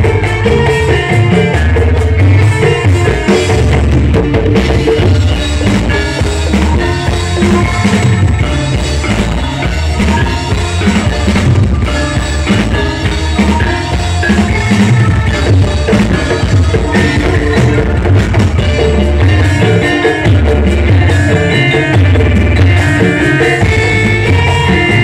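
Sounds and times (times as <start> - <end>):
drum kit: 0.0 - 25.0
loud music through sound system: 0.0 - 25.0.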